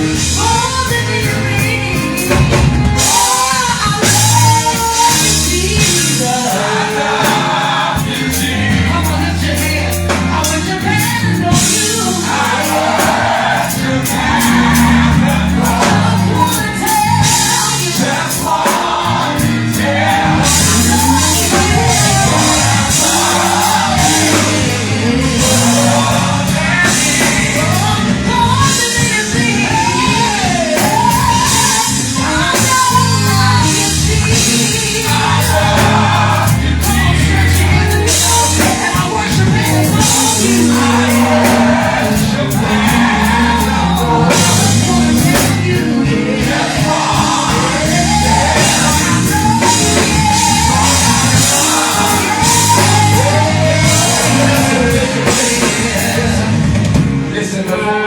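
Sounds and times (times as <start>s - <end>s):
gospel band music with singing: 0.0s - 58.0s.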